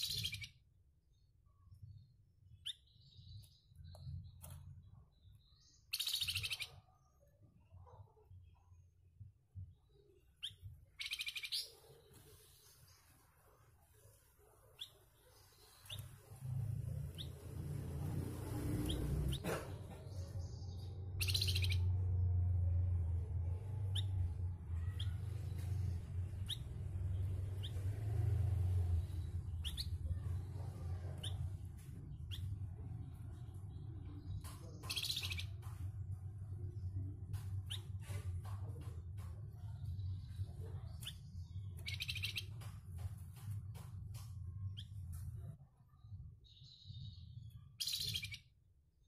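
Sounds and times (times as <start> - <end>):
songbird chirping: 0.0 - 49.0.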